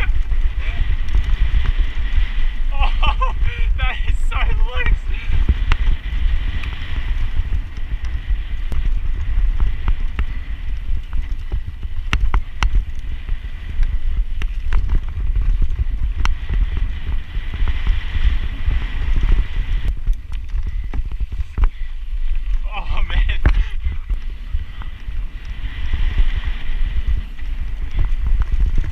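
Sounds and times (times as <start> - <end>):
bike clacking and rattling: 0.0 - 28.9
wind buffeting microphone: 0.0 - 28.9.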